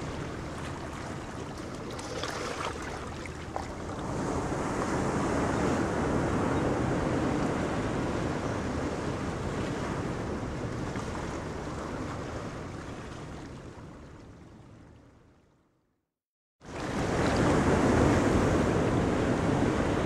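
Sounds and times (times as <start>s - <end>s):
wind on microphone: 0.0s - 14.0s, 16.8s - 20.0s
sea waves: 0.0s - 15.0s, 16.6s - 20.0s.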